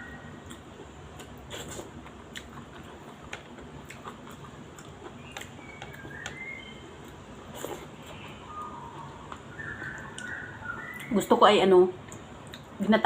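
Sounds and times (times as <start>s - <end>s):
chewing and mouth smacks: 0.4s - 6.4s, 7.0s - 11.1s, 12.0s - 12.8s.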